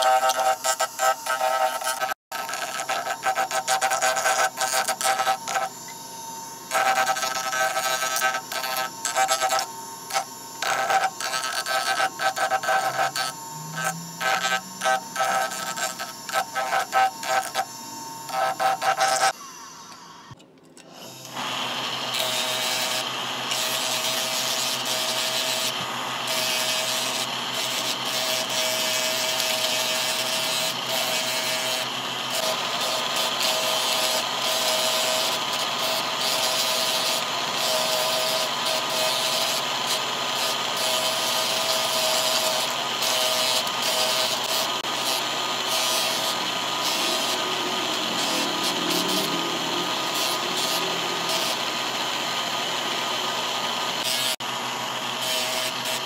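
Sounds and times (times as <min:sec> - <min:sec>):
wood rasping on sanding disc: 0:00.0 - 0:05.7, 0:06.7 - 0:17.7, 0:18.3 - 0:19.4, 0:22.0 - 0:51.8
electric motor hum: 0:00.0 - 0:56.0.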